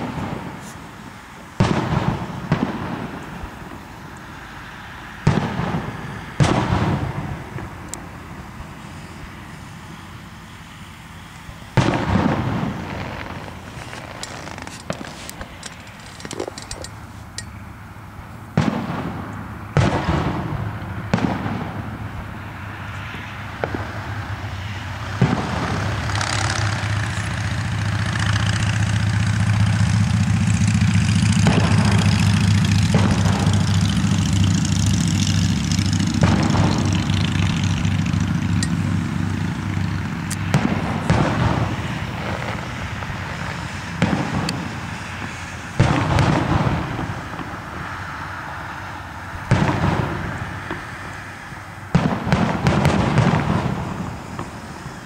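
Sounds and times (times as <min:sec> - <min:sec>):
fireworks booming: 0:00.0 - 0:04.4, 0:05.1 - 0:10.0, 0:11.7 - 0:17.1, 0:18.5 - 0:22.5, 0:23.5 - 0:48.4, 0:49.4 - 0:55.0
fireworks crackle: 0:00.0 - 0:17.5, 0:18.5 - 0:22.5, 0:23.5 - 0:48.5, 0:49.3 - 0:55.0.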